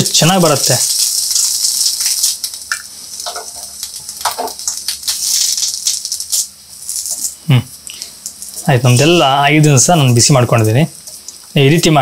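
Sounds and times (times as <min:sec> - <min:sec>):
leaves sizzling on a hot pan: 0:00.0 - 0:12.0.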